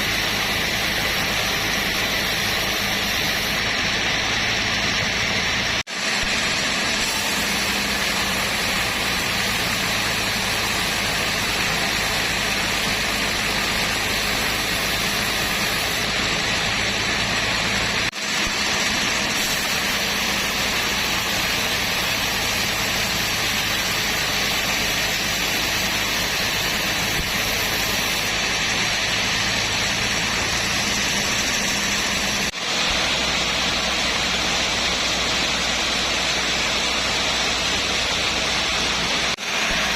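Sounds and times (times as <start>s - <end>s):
sawmill machinery hissing and humming: 0.0s - 39.9s.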